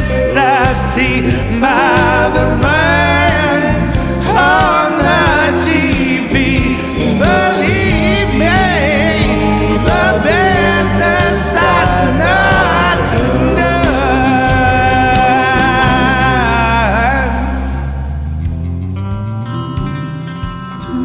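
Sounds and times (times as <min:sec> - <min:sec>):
melodic lead guitar line: 0:00.0 - 0:21.0
rock band song: 0:00.0 - 0:21.0.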